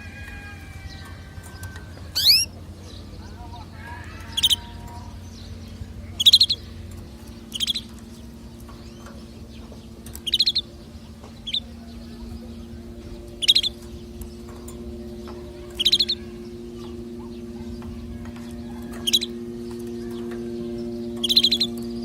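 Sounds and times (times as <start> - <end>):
canary trilling: 0.0 - 22.0
steady low hum: 0.0 - 22.0.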